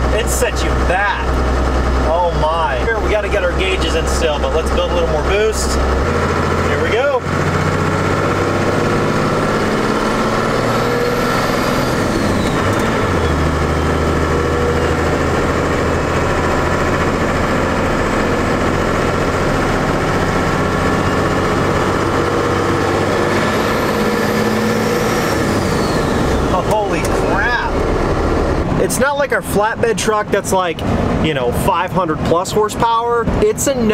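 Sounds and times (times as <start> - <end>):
diesel engine accelerating: 0.0 - 33.9.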